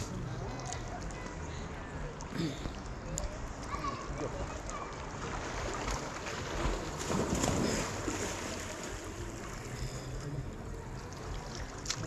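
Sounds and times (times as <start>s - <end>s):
water sloshing: 0.0s - 12.0s.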